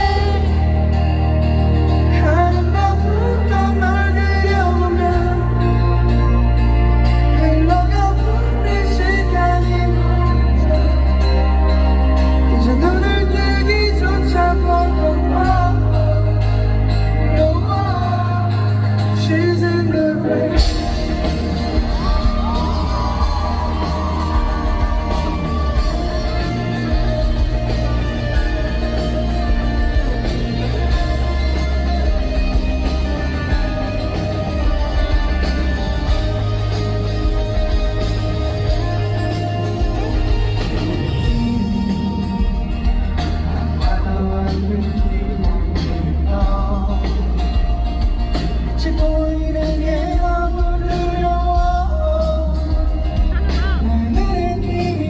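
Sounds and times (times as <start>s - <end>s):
drums: 0.0s - 55.0s
live rock band playing: 0.0s - 55.0s
person singing: 0.0s - 55.0s.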